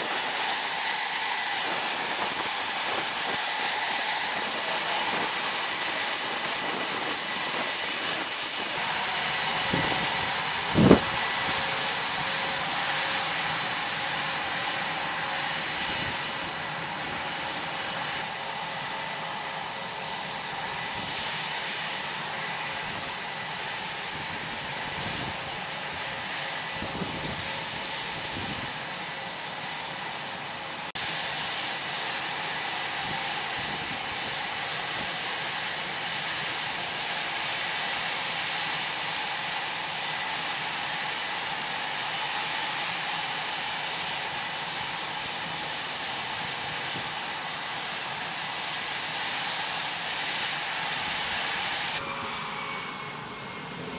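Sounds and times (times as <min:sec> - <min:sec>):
jet engines rushing and whining: 0:00.0 - 0:53.9.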